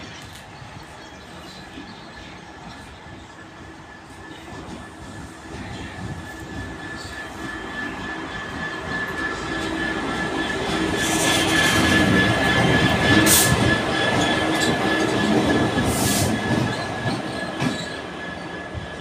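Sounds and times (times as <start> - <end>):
diesel locomotive rolling past: 0.0 - 19.0.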